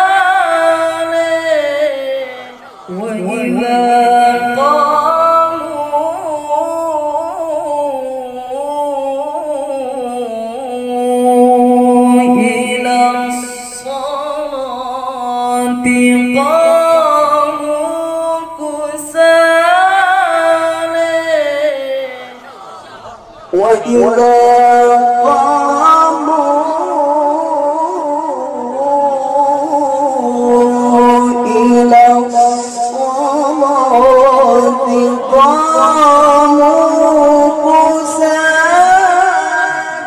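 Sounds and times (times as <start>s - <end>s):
man reciting melodically: 0.0s - 40.0s.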